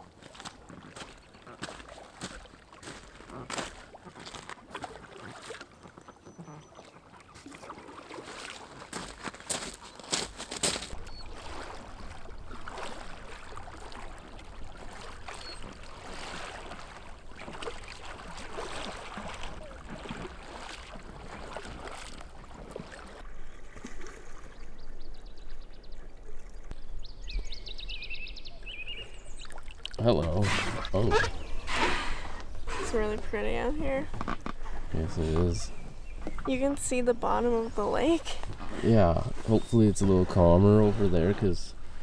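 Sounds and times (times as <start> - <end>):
paddle strokes in water: 0.0 - 25.1, 29.1 - 42.0.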